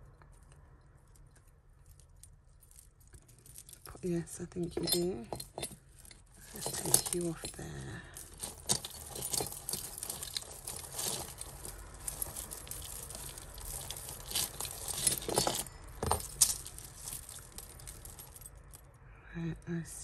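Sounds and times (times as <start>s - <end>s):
jewellery jingling and clinking: 0.4s - 18.9s.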